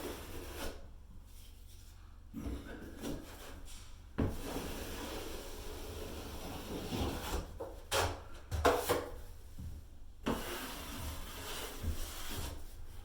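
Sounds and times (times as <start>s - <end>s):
drywall knife scraping compound: 0.0s - 9.2s, 10.2s - 13.0s.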